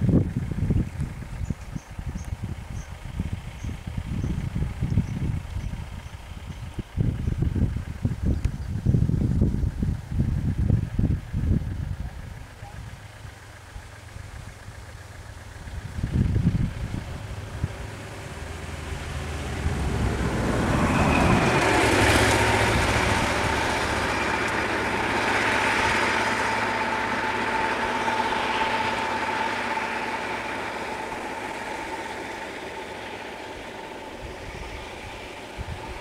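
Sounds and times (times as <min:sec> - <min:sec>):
road vehicle rushing past: 0:00.0 - 0:36.0
vehicle engine running: 0:00.0 - 0:36.0
steady whine: 0:02.0 - 0:36.0.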